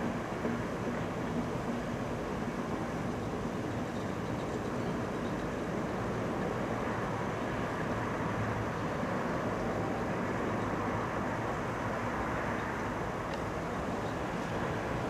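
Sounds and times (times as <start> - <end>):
distant train rumbling: 0.0 - 15.0.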